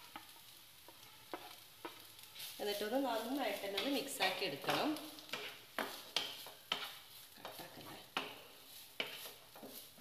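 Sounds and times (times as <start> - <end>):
food sizzling: 0.0 - 10.0
spatula scraping a pan: 0.0 - 10.0.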